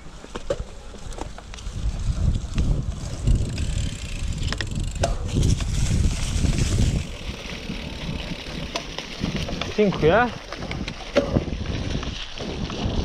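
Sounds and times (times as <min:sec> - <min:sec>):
bike rattling: 0:00.0 - 0:13.0
bike tyres rolling: 0:00.0 - 0:13.0
wind rumbling on microphone: 0:00.0 - 0:13.0.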